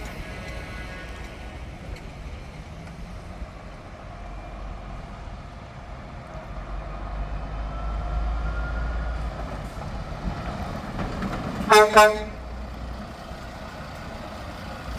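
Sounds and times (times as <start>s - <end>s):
truck diesel engine passing: 0.0s - 14.9s.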